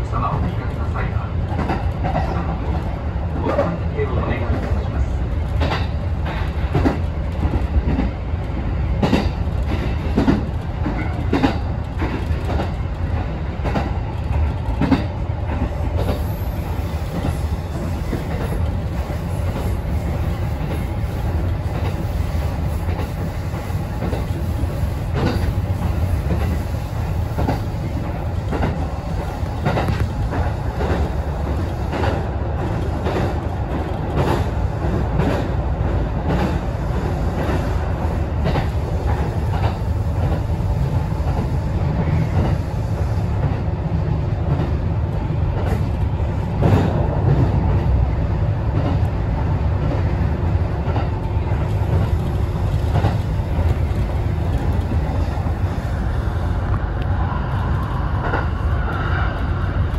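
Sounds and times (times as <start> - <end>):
train interior rumble: 0.0 - 59.9.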